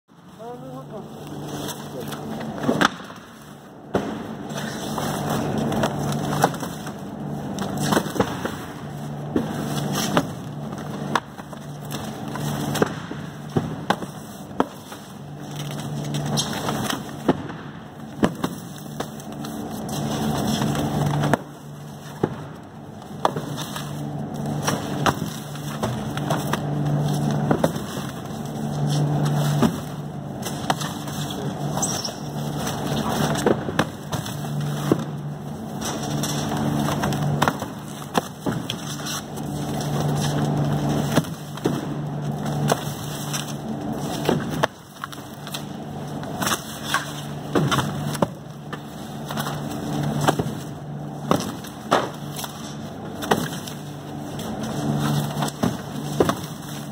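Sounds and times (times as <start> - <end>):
steady low hum: 0.1 - 56.9
boxes thudding on metal racks: 1.6 - 56.9.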